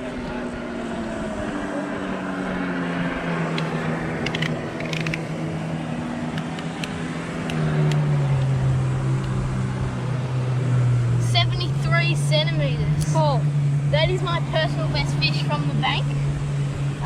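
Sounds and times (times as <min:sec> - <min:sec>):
motor engine humming: 0:00.0 - 0:17.0.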